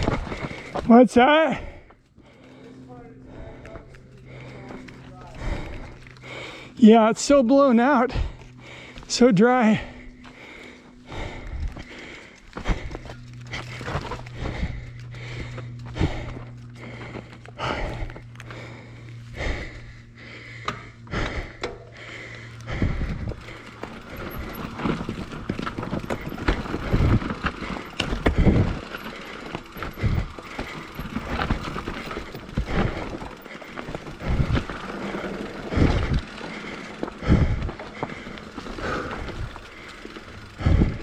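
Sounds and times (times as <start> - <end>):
mountain bike clattering on dirt trail: 0.0 - 41.0
bike hub ratchet ticking: 0.2 - 41.0.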